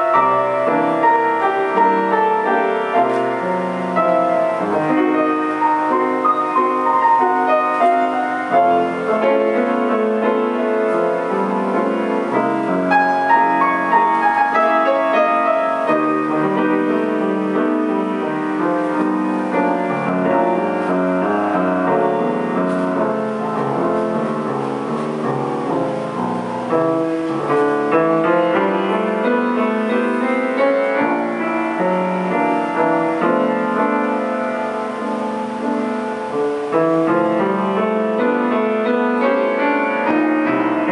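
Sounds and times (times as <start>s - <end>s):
grand piano playing: 0.0s - 40.9s.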